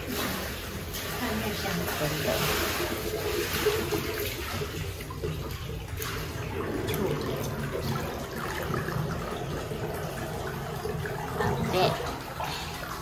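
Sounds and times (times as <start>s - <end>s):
light water splashes: 0.0s - 13.0s
water trickling: 0.0s - 13.0s.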